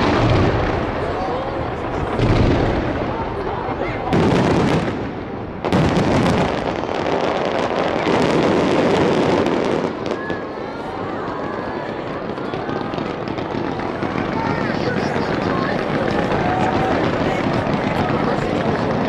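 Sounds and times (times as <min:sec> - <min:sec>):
fireworks crackling and bursting: 0:00.0 - 0:19.0.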